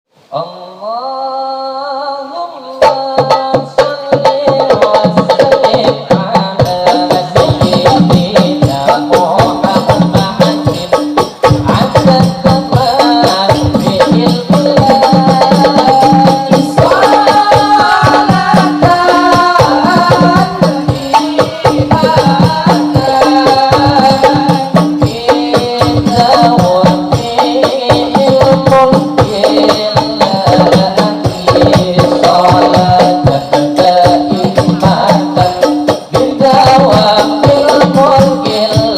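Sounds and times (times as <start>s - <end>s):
person singing: 0.2s - 38.9s
frame drums beat: 2.8s - 38.9s.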